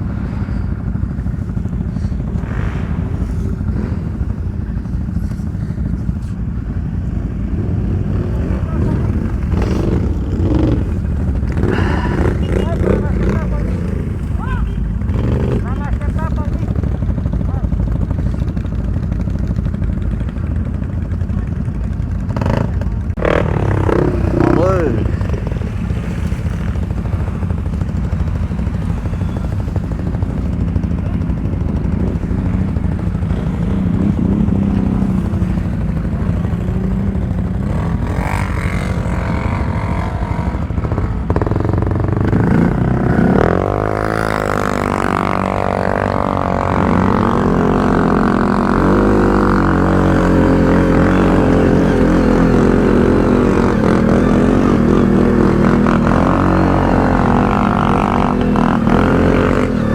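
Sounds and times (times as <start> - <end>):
atv engine rumble: 0.0 - 59.9.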